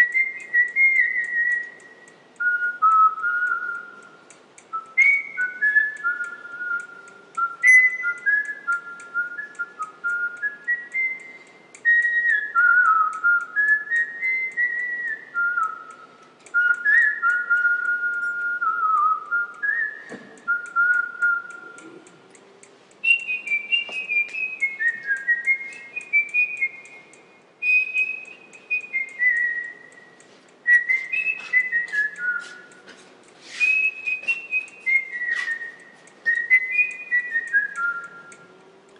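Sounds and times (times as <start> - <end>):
person whistling a slow tune: 0.0 - 22.2, 23.0 - 38.8.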